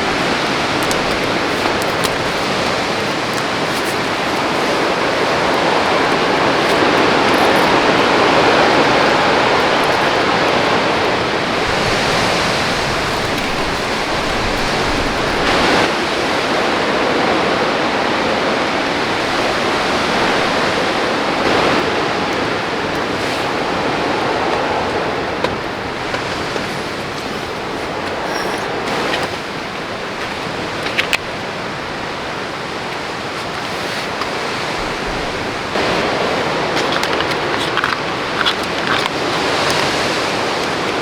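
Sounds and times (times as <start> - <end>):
heavy rain: 0.0 - 41.0
rain spatters: 0.0 - 41.0
wind: 0.0 - 41.0.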